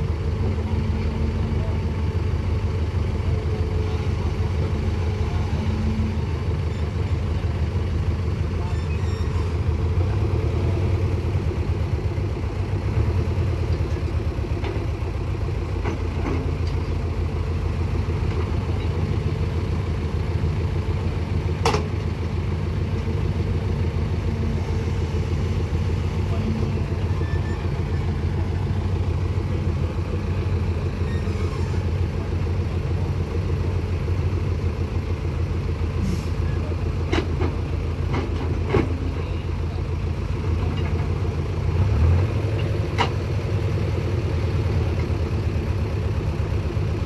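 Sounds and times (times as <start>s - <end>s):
diesel engines rumbling: 0.0s - 47.0s.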